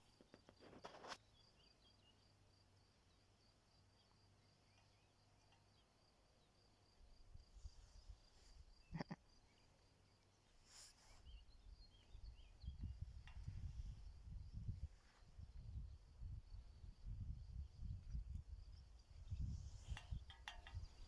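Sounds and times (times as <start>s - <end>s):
faint cricket chirping: 0.0s - 21.0s.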